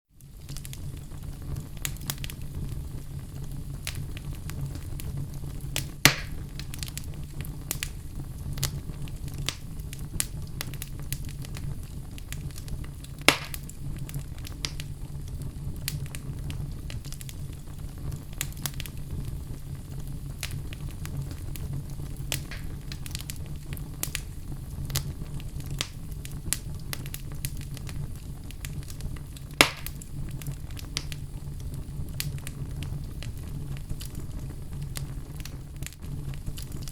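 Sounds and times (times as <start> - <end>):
wood fire crackling: 0.1 - 36.9
loud fire pops: 0.2 - 36.9
steady low rumble: 0.2 - 36.9.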